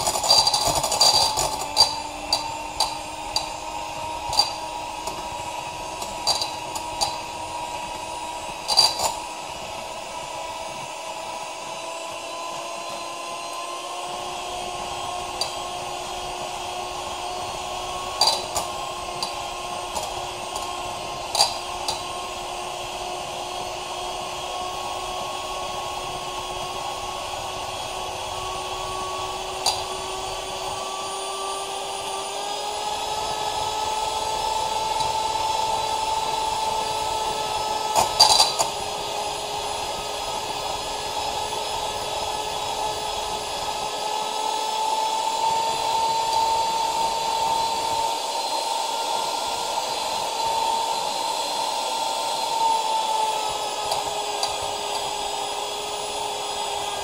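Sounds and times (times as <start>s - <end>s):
hand mixer motor whining: 0.0s - 57.0s.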